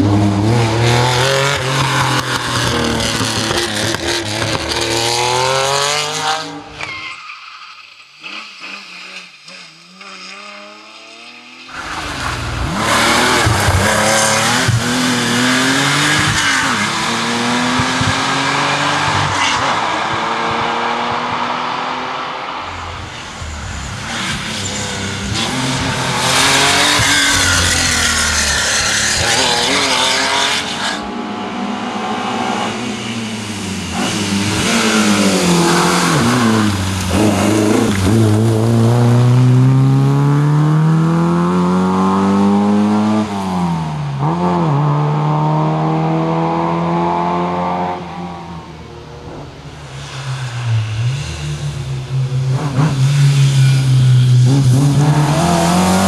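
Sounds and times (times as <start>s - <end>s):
rally car engines revving hard: 0.0s - 6.8s, 8.2s - 56.0s.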